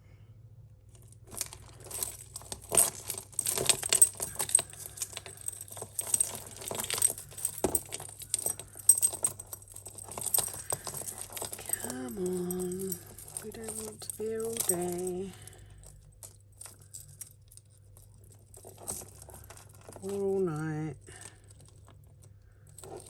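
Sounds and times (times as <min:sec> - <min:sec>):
jewellery chains clinking: 0:00.9 - 0:23.0.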